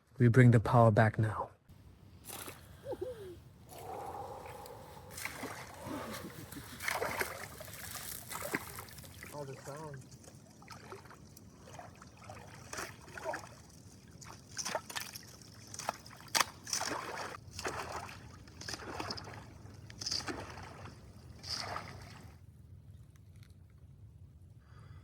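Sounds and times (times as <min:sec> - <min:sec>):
water sloshing and splashing: 0:01.9 - 0:23.6.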